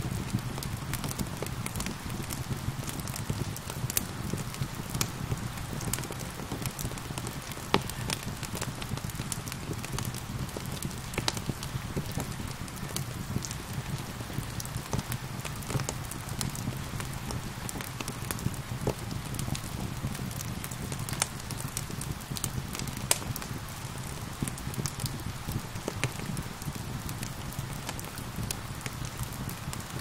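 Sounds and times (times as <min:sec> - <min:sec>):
gentle rain hiss: 0:00.0 - 0:30.0
wood fire crackling and popping: 0:00.0 - 0:30.0.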